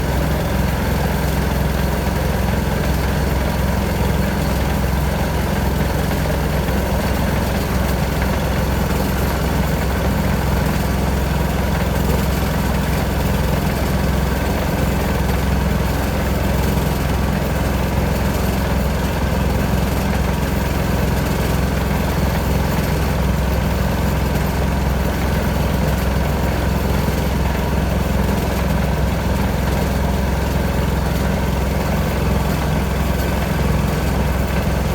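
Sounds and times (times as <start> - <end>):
small boat motor humming: 0.0 - 34.9.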